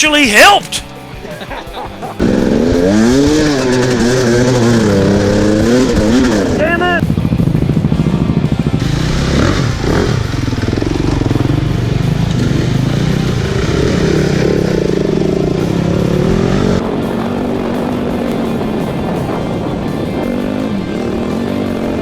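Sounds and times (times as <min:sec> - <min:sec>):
dirt bike engine revving: 0:01.9 - 0:22.0.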